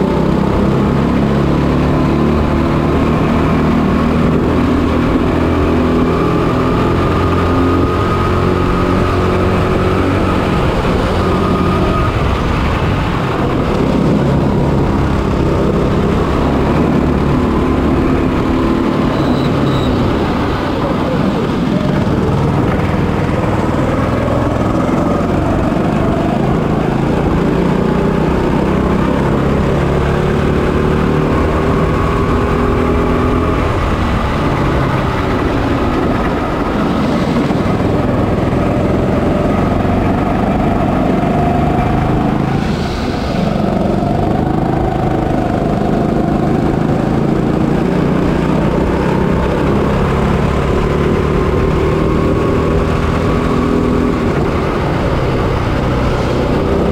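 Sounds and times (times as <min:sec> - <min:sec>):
kart engine running: 0:00.0 - 0:56.9.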